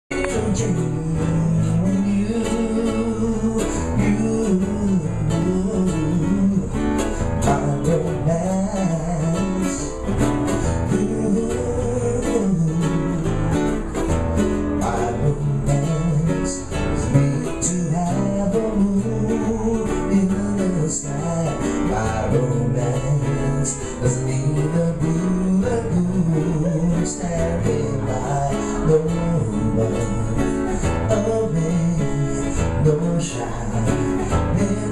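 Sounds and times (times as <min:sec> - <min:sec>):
person singing: 0:00.1 - 0:14.0, 0:14.8 - 0:34.9
acoustic guitars strummed: 0:00.1 - 0:34.9
ukulele: 0:00.1 - 0:34.9.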